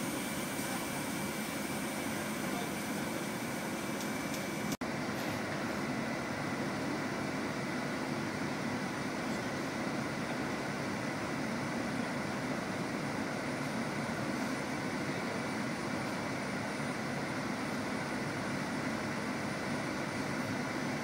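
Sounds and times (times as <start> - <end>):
train engine humming: 0.0 - 21.0.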